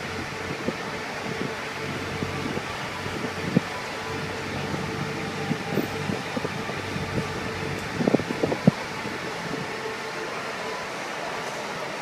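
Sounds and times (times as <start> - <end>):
motorcycle engine droning: 0.0 - 9.9.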